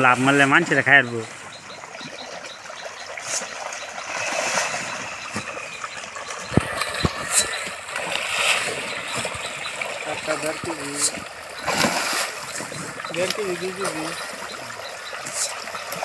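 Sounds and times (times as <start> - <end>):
fish splashing at water surface: 1.3 - 16.0.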